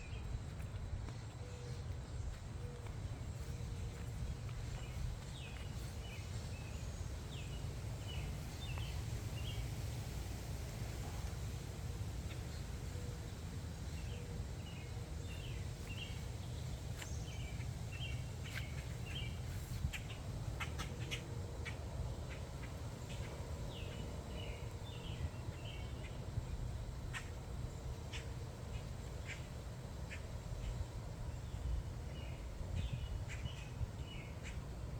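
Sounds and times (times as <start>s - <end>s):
small birds chirping: 0.0s - 10.4s, 11.1s - 34.9s
steady low rumble: 0.0s - 34.9s.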